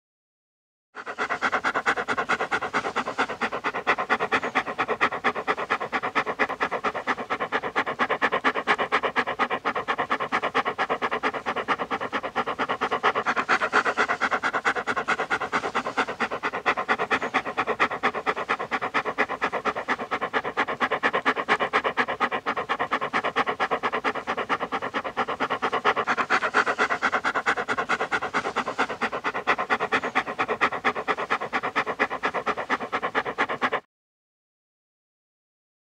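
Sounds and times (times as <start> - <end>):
dog panting: 1.0 - 33.9.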